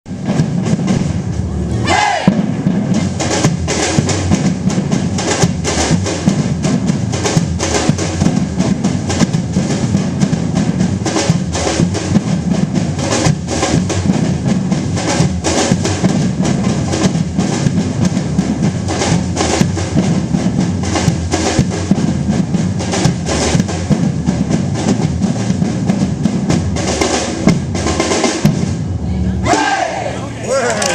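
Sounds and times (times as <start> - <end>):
deep drum hits: 0.1 - 30.1
ensemble of drummers playing: 0.1 - 30.9.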